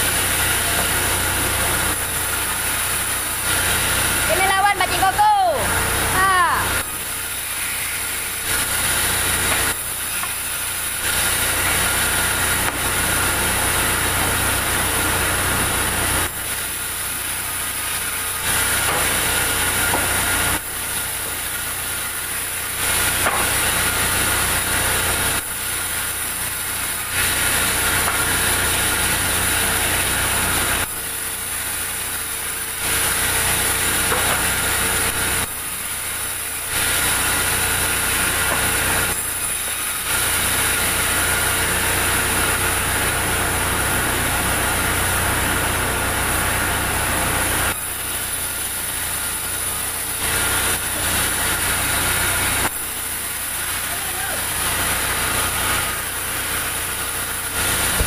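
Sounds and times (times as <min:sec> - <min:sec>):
band saw cutting timber: 0:00.0 - 0:58.0.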